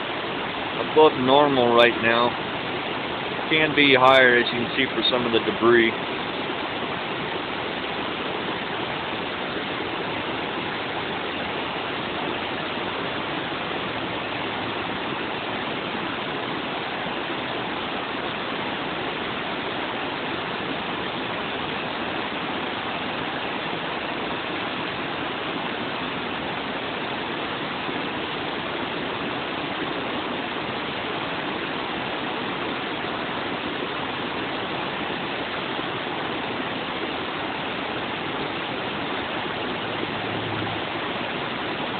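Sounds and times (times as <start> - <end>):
river rushing over rapids: 0.0 - 41.9.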